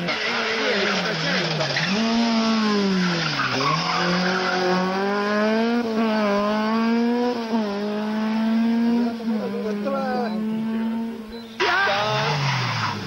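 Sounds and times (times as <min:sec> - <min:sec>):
rally car engine revving high: 0:00.0 - 0:13.0.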